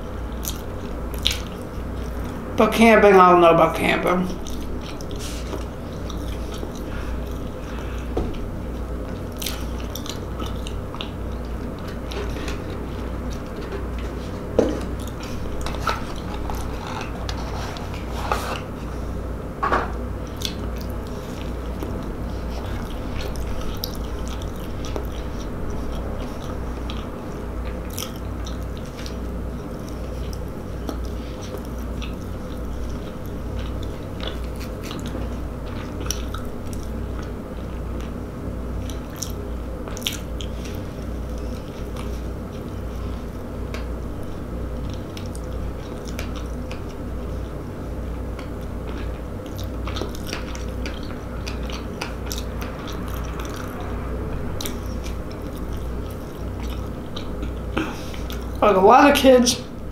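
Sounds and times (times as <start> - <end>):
person chewing: 0.0 - 2.4, 4.4 - 19.3, 20.1 - 58.6
steady low hum: 0.0 - 59.9.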